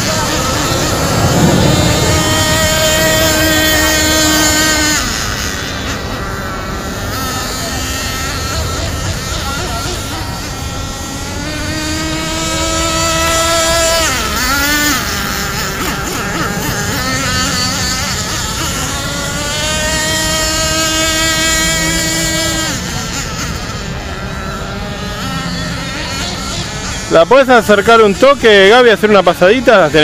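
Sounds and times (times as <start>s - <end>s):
model boat engine high-pitched buzz: 0.0s - 30.0s.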